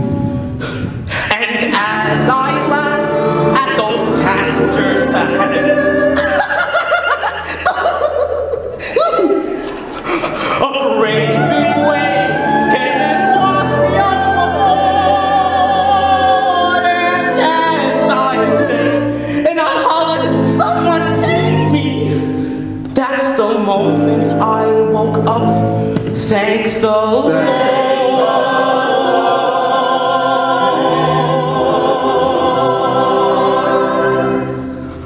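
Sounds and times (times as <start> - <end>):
musical accompaniment: 0.0 - 35.0
other voices singing: 0.7 - 8.3, 8.9 - 22.4, 23.4 - 35.0
man singing with vibrato: 1.2 - 8.0, 8.9 - 33.6.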